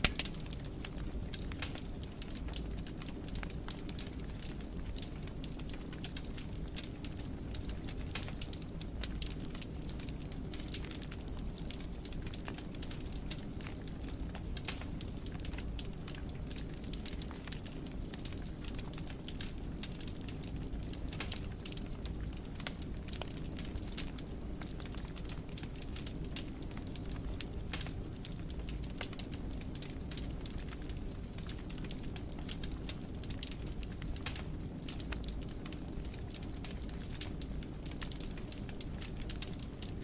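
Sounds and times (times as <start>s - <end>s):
low rumble of flames: 0.0s - 40.0s
wood fire popping and snapping: 0.0s - 40.0s.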